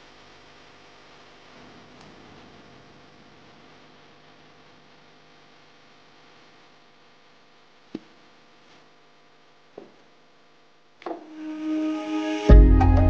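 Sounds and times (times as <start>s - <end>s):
faint background hum: 0.0s - 11.7s.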